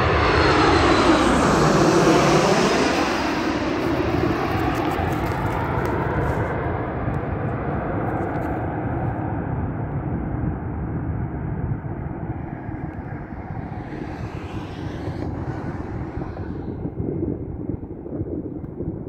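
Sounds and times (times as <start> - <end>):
jet engines low rumble: 0.0 - 19.0.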